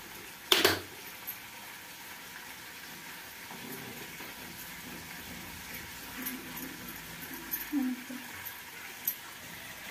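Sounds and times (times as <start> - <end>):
simmering hiss: 0.0 - 9.9.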